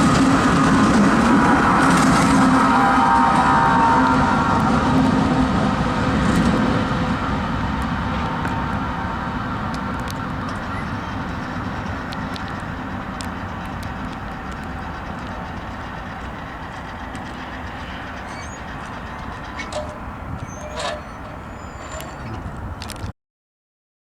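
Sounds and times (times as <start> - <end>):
freight train rolling past: 0.0 - 23.1
wheels clicking on rails: 0.0 - 23.1.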